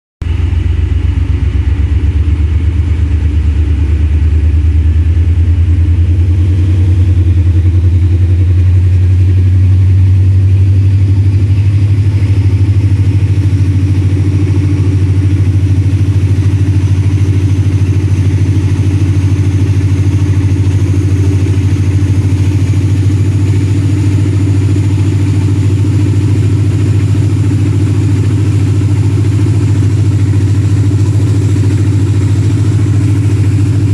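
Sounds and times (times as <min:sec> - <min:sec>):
diesel locomotive engine chugging: 0:00.2 - 0:33.9.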